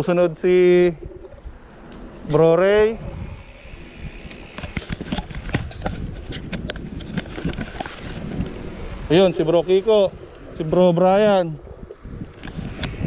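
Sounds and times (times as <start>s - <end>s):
bicycle clicking and rattling: 0.0s - 11.4s, 12.2s - 13.0s
wind rushing over microphone: 0.0s - 13.0s.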